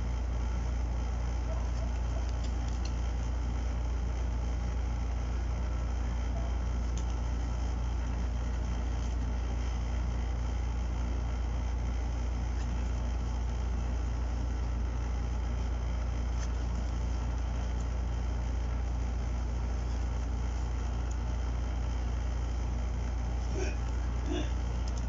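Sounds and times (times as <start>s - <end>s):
low-pitched hum: 0.0s - 25.0s.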